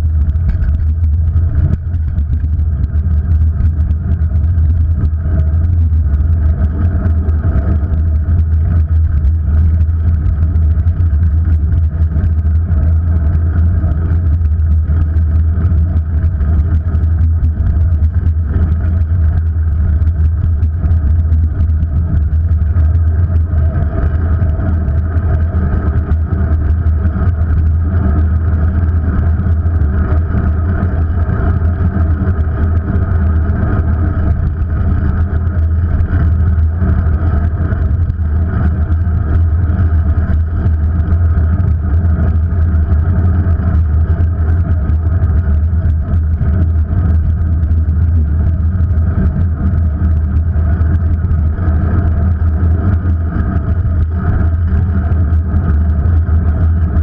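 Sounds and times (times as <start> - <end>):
road rumble: 0.0 - 57.0
wind noise: 0.0 - 57.0.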